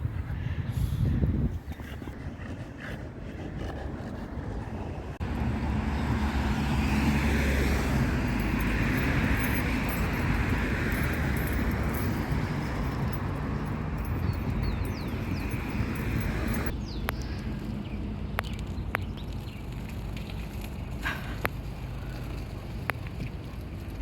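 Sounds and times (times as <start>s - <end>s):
car engine and road noise: 3.8s - 24.0s.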